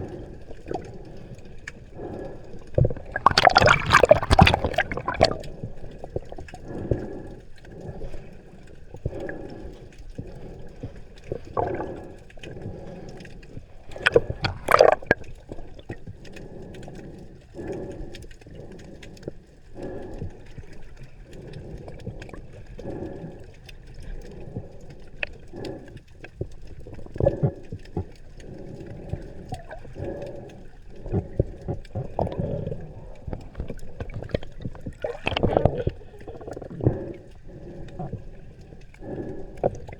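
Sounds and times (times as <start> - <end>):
underwater breathing bubbles: 0.0 - 39.9.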